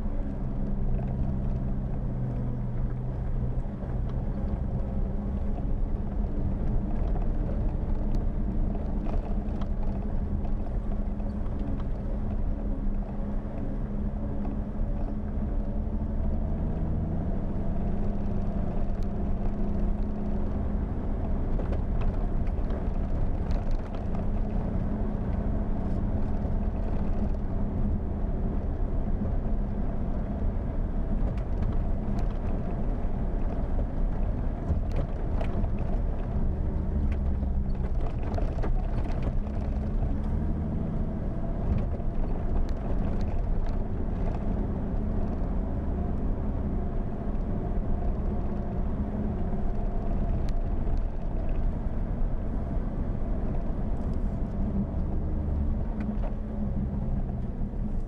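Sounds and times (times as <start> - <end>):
car engine driving: 0.0 - 58.0
clicks and rattles on rough road: 0.0 - 58.0.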